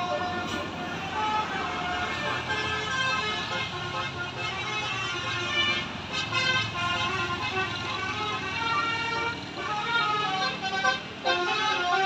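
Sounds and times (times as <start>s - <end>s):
musical air horn playing a tune: 0.0s - 12.0s.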